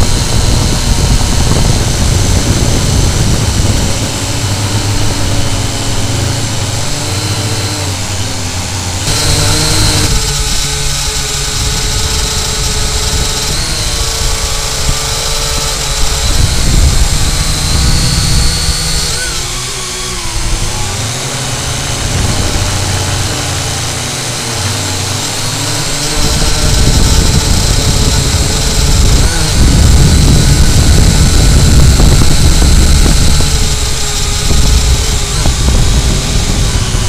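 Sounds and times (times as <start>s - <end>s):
drone motors whining: 0.0s - 37.0s
wind buffeting microphone: 0.0s - 37.0s.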